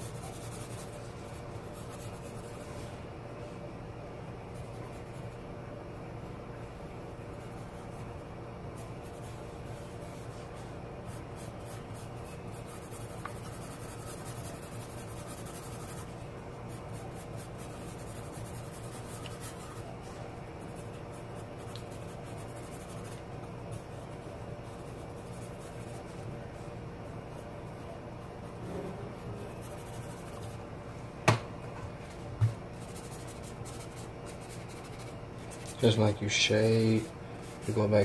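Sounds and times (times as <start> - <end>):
pencil scratching on paper: 0.0 - 2.9, 4.6 - 5.4, 7.3 - 30.6, 32.7 - 38.0
steady low hum: 0.0 - 38.0.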